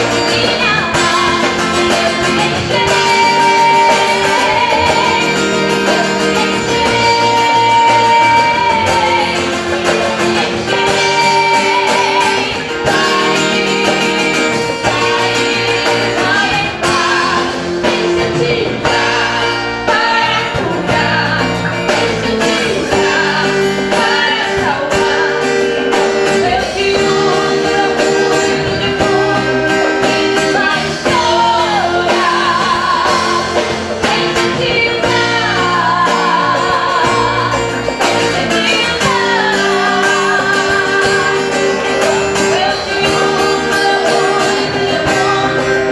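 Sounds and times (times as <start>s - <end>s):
guitar accompaniment: 0.0s - 45.9s
voices singing: 0.0s - 45.9s.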